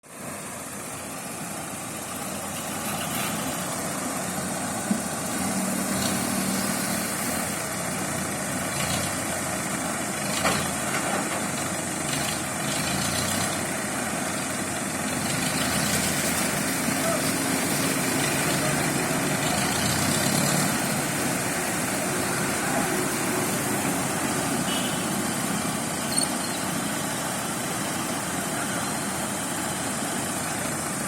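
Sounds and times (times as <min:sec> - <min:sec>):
heavy engine running: 0:00.0 - 0:31.0.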